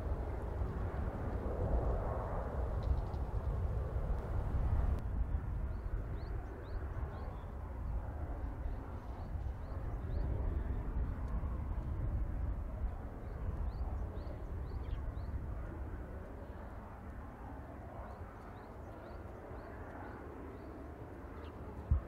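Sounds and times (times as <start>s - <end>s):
distant turboprop plane: 0.0s - 22.0s
wind rumbling on microphone: 0.0s - 22.0s.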